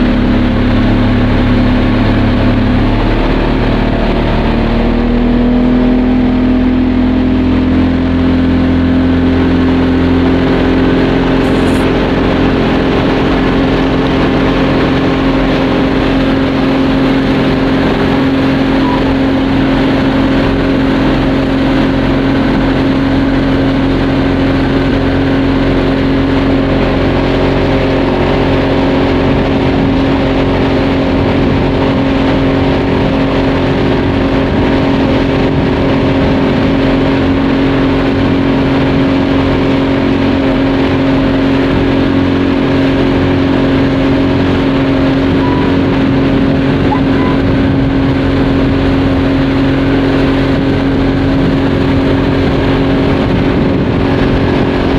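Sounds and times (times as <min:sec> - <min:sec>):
speedboat engine droning: 0:00.0 - 0:54.9.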